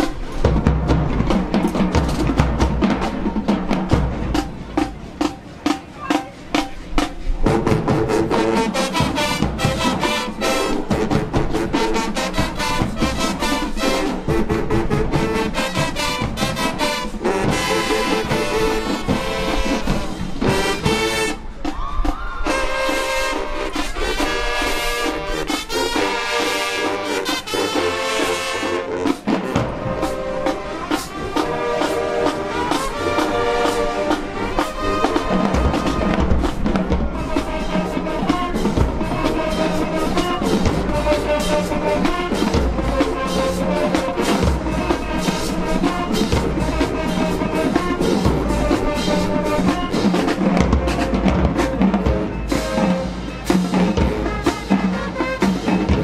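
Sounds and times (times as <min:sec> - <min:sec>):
brass chords: 0:00.0 - 0:21.7, 0:22.4 - 0:56.0
drums: 0:00.0 - 0:56.0
marching band playing: 0:00.0 - 0:56.0.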